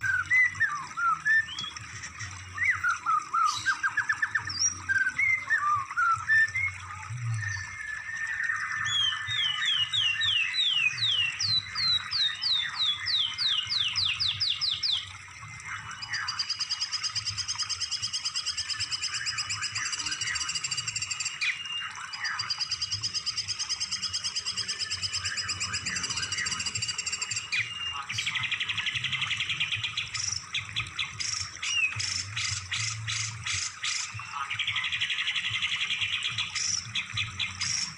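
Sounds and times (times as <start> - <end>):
songbird whistles and trills: 0.0 - 37.9.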